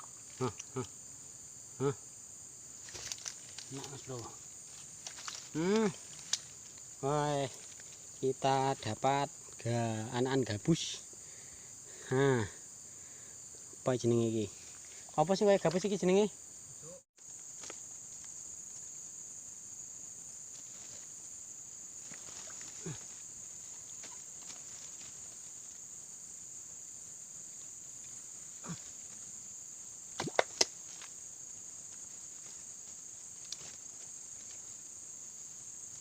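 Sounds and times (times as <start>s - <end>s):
crickets and insects chirping: 0.0s - 36.0s.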